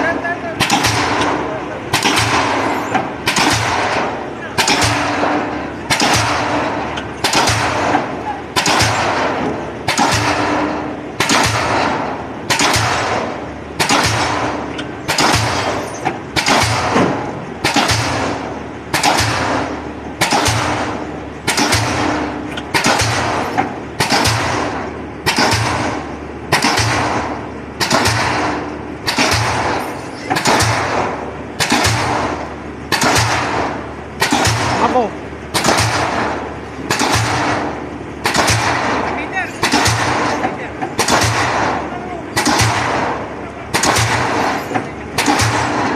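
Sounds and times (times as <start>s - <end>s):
pile-driving hammer banging: 0.0s - 45.9s.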